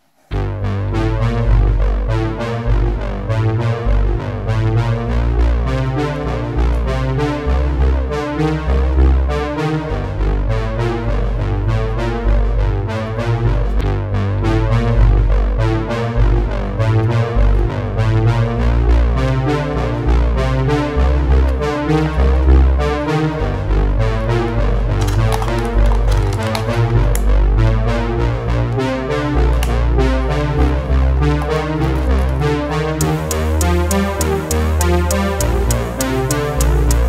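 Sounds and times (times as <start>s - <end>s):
electronic music with synthesizer: 0.3s - 37.0s.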